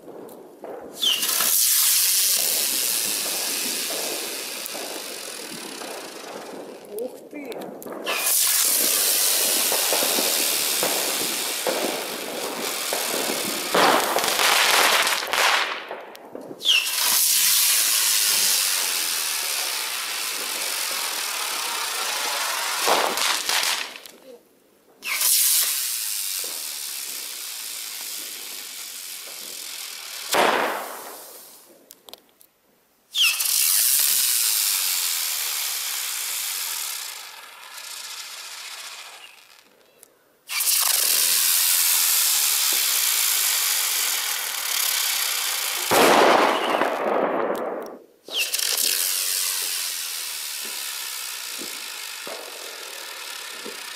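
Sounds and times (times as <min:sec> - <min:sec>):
sharp pops: 0:00.0 - 0:24.4, 0:25.0 - 0:32.5, 0:33.1 - 0:53.9
fireworks hissing: 0:00.0 - 0:32.2, 0:33.1 - 0:53.9.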